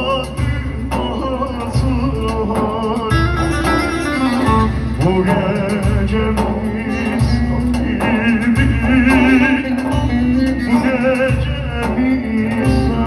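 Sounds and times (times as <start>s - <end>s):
man singing with vibrato: 0.0s - 13.0s.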